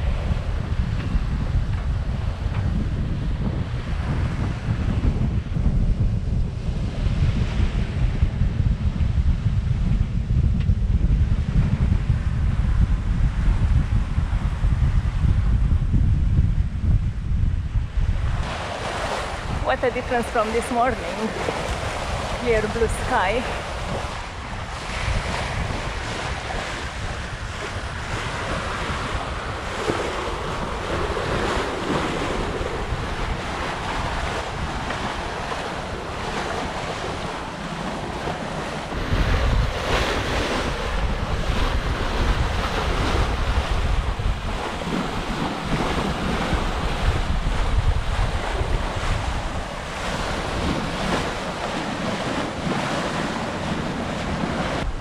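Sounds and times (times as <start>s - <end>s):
sea splashing along hull: 0.0s - 9.4s, 18.0s - 55.0s
wind buffeting microphone: 0.0s - 55.0s.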